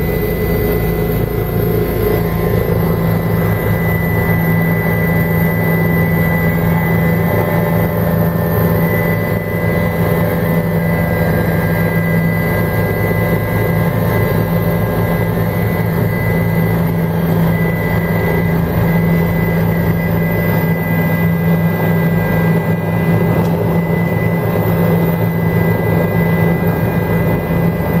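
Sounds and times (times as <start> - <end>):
helicopter engine and rotors droning: 0.0 - 28.0
thin high whine: 0.0 - 28.0.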